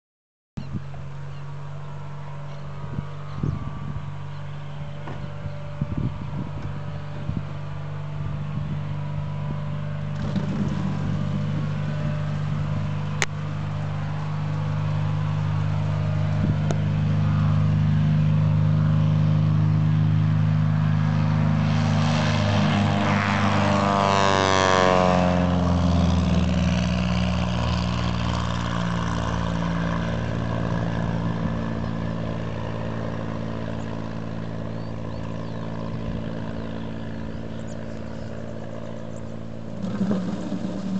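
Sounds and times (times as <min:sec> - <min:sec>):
propeller airplane passing by: 0:00.6 - 0:40.9.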